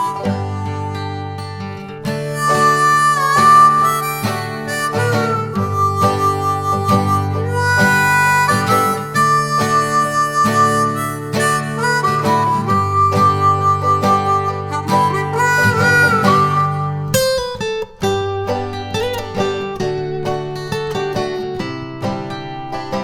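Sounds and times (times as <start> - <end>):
acoustic guitar chords: 0.0 - 23.0
harmonica melody: 0.0 - 23.0.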